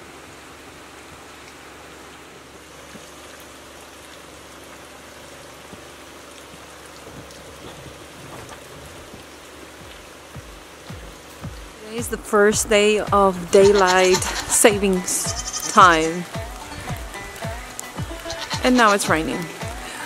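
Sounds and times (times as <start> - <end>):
rain falling on trees: 0.0 - 20.0.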